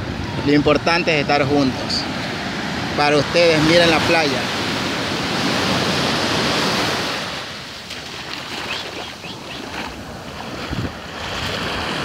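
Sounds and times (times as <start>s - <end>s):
waves breaking on a beach: 0.0s - 12.0s.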